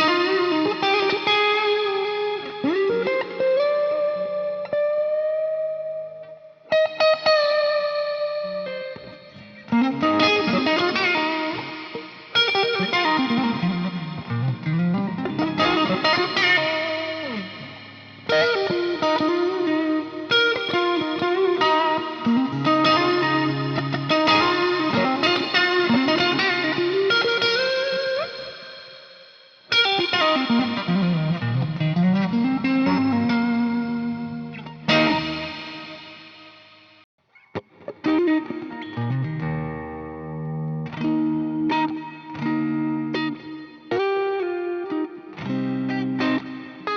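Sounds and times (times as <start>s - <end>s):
electric guitar lead phrases: 0.0s - 46.9s.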